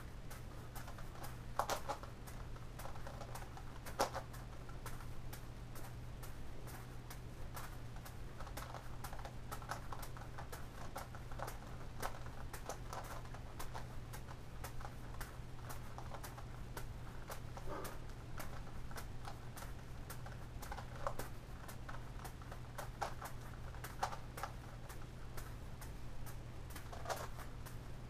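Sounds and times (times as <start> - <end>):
constant low hum: 0.0 - 28.0
puzzle layers clicking: 0.2 - 28.0.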